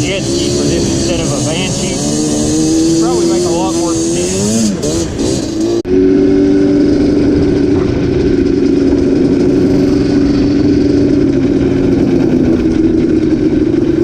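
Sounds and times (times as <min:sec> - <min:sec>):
two-stroke engine running: 0:00.0 - 0:14.0.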